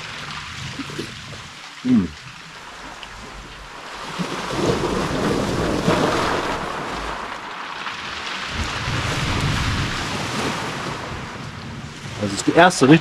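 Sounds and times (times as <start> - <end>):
sea waves washing on rocks: 0.0 - 13.0.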